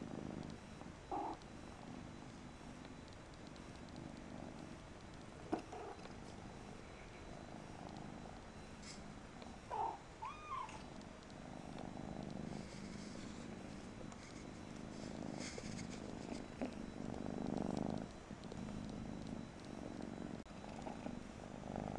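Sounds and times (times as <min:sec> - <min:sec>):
soft purring: 0:00.0 - 0:21.9.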